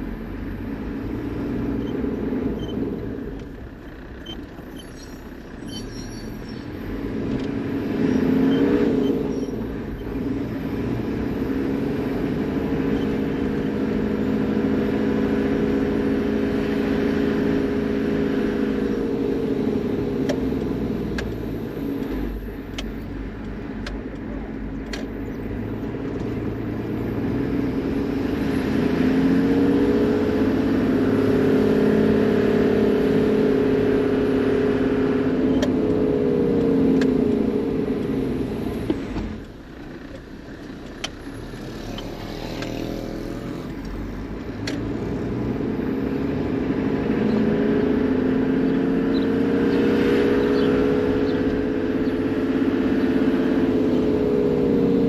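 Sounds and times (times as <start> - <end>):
diesel engine running while driving: 0.0 - 55.0.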